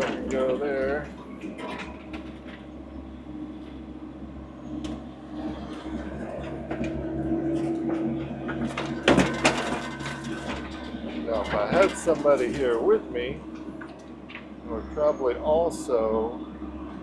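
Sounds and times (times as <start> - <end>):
hydraulic whine: 0.0 - 17.0
skid steer engine drone: 0.0 - 17.0.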